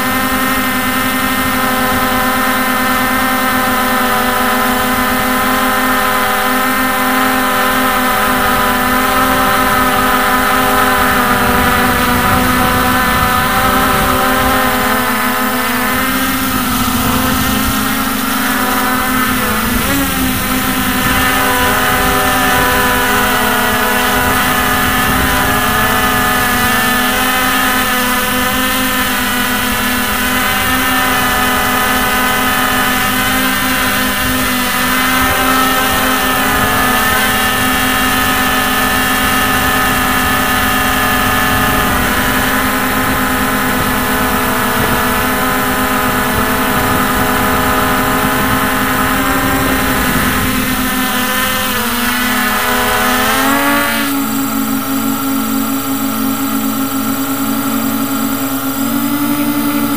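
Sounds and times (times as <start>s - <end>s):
quadcopter propellers whining: 0.0s - 59.9s.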